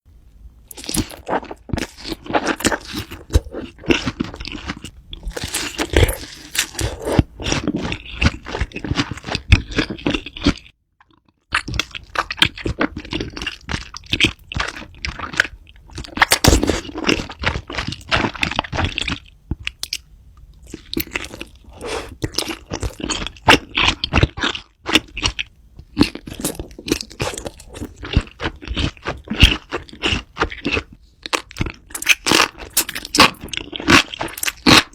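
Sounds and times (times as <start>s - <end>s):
crunchy food chewing: 0.7s - 20.0s, 20.6s - 34.9s.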